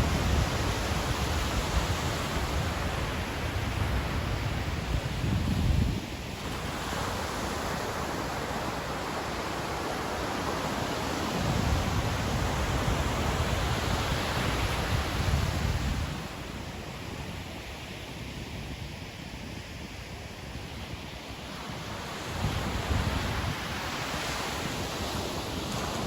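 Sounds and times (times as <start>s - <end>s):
ocean surf on sandy beach: 0.0s - 26.0s.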